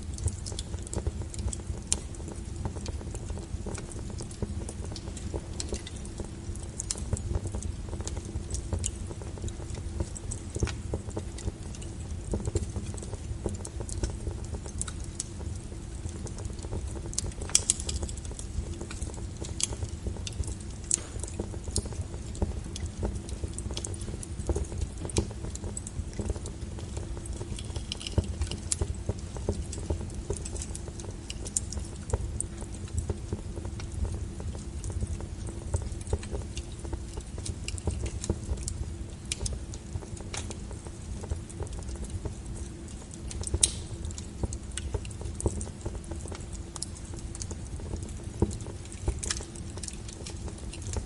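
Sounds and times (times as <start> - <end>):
fire pops and snaps: 0.0 - 51.0
low rumble of flames: 0.0 - 51.0.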